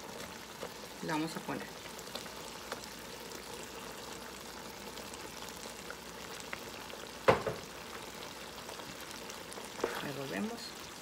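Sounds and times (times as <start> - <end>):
sauce simmering and bubbling: 0.0 - 11.0.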